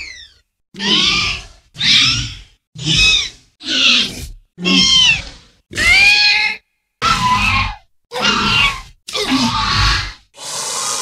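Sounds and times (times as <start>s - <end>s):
creature screeches and hisses: 0.8s - 11.0s.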